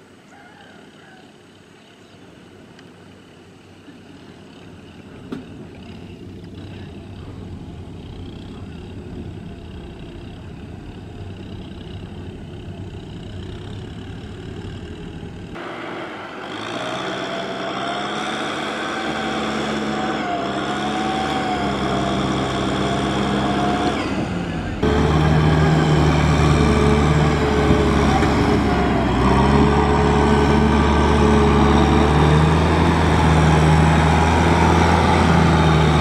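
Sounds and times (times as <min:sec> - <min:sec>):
tractor engines running hard: 0:01.3 - 0:36.0.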